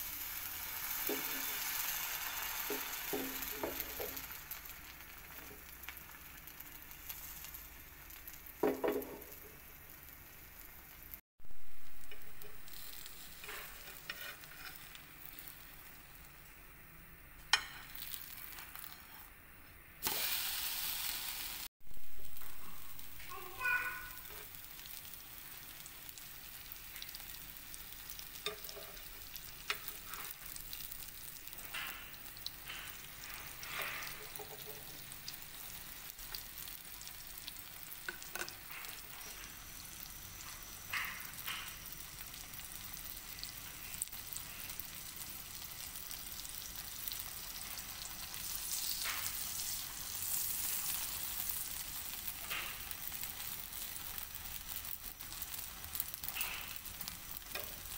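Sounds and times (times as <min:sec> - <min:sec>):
butter sizzling on griddle: 0:00.0 - 0:11.2, 0:11.8 - 0:16.4, 0:17.5 - 0:19.3, 0:20.0 - 0:57.9.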